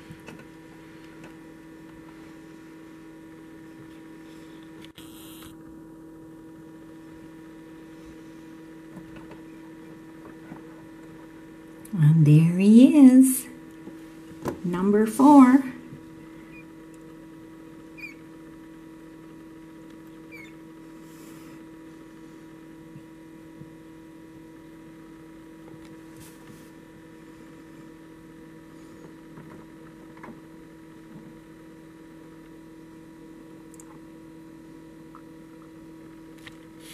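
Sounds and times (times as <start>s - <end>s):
incubator electrical hum: 0.0s - 36.9s.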